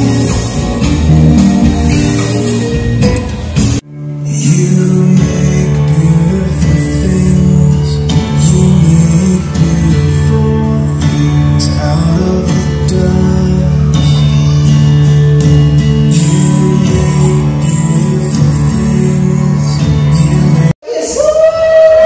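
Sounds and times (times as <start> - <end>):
guitar and singing music: 0.0 - 22.0.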